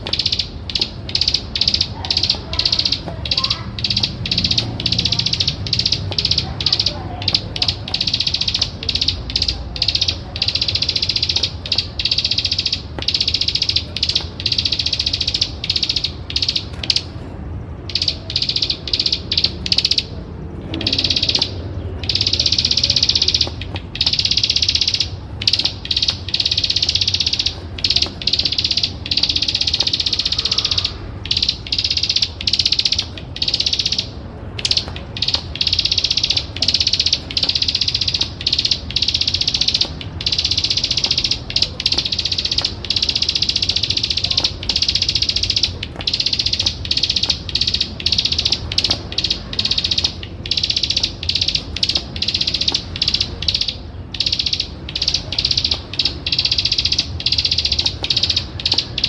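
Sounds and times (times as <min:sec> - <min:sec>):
bird clicking rattling trill: 0:00.0 - 0:17.1, 0:17.8 - 0:59.0.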